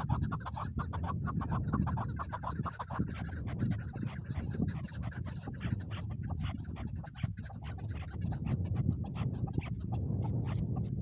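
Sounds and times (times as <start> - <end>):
partridge chuck calls: 0.0 - 11.0.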